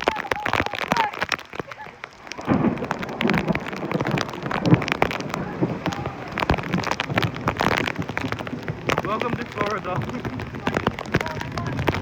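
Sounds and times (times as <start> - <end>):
heavy rain: 0.0 - 12.0
raindrops tapping microphone: 0.0 - 12.0.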